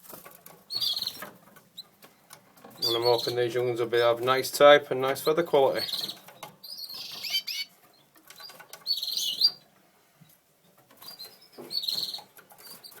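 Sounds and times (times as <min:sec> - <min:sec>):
canaries chirping: 0:00.0 - 0:13.0
rustling and scratching in cage: 0:00.0 - 0:13.0.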